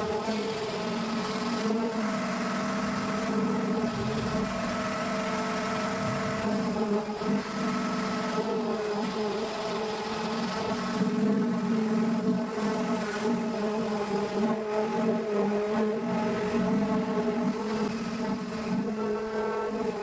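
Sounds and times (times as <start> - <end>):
power sander buzzing: 0.0 - 20.0.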